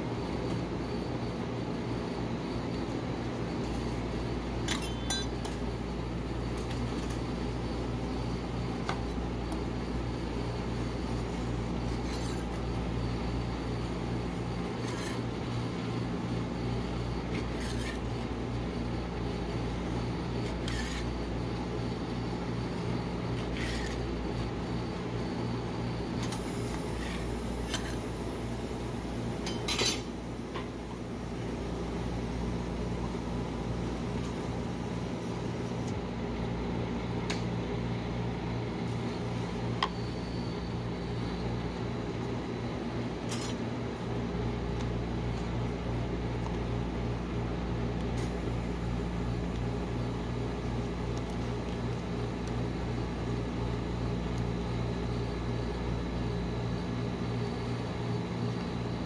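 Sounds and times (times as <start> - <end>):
refrigeration unit hum: 0.0 - 59.0.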